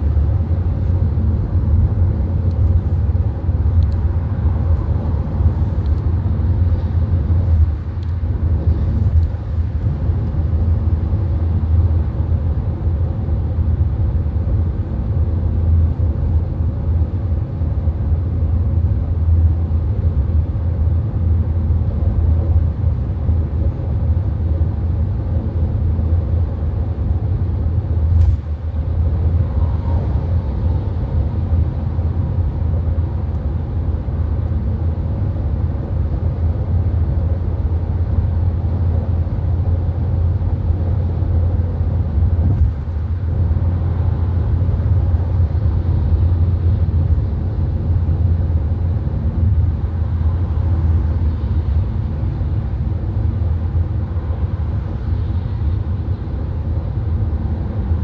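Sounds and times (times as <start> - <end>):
car interior road noise: 0.0 - 58.0.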